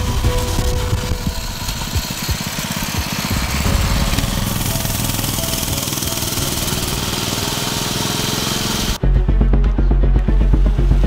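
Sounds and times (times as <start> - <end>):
mini bike engine running: 0.0 - 9.0.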